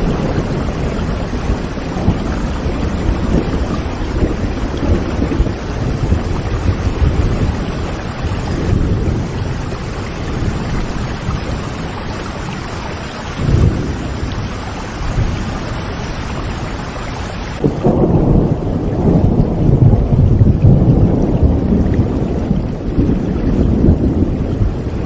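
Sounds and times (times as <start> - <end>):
rain falling: 0.0 - 25.0
thunder rumbling: 0.0 - 25.0.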